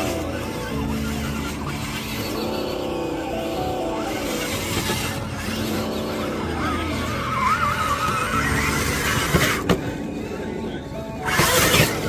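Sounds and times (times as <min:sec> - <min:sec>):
background music: 0:00.0 - 0:12.0
electric motor whine: 0:00.0 - 0:12.0.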